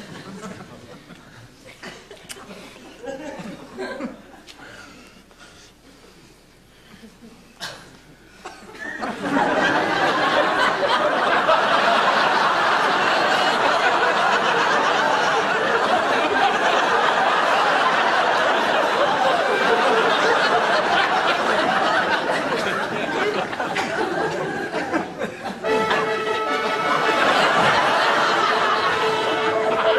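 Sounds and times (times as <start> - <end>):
audience laughing: 0.0 - 4.5, 8.7 - 29.9.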